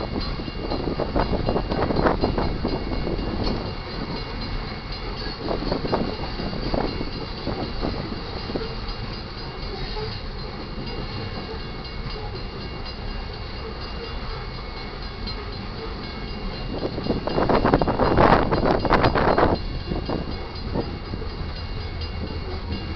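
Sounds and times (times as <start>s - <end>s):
freight train wheels rumbling on rail: 0.0s - 22.9s.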